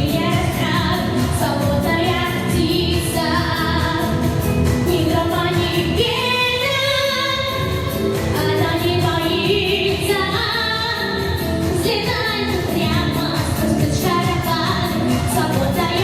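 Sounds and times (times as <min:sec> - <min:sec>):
backing track music: 0:00.0 - 0:16.0.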